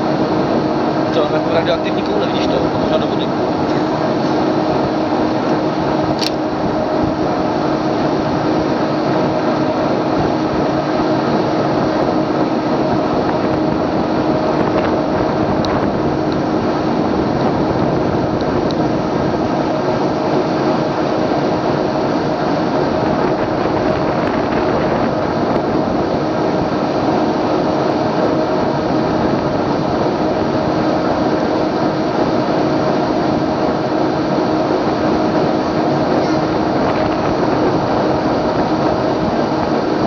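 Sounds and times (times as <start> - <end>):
boat engine drone: 0.0 - 40.0
rushing water noise: 0.0 - 40.0.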